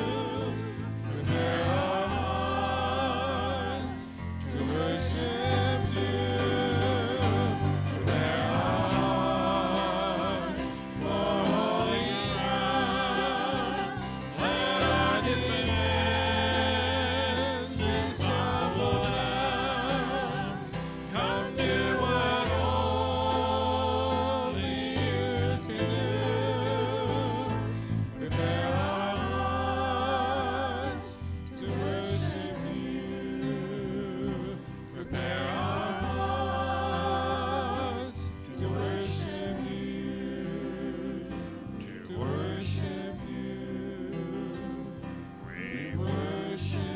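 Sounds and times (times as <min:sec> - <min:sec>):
instrumental accompaniment with bass: 0:00.0 - 0:46.9
voices singing with vibrato: 0:00.0 - 0:46.9.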